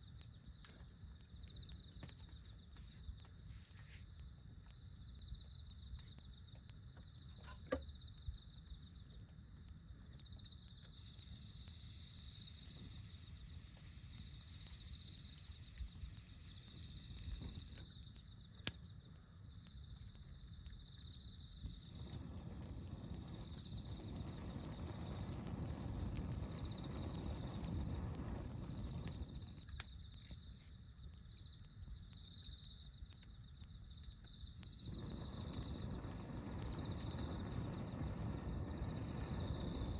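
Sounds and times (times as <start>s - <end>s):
campfire crackling and popping: 0.0s - 39.9s
insects trilling: 0.0s - 39.9s.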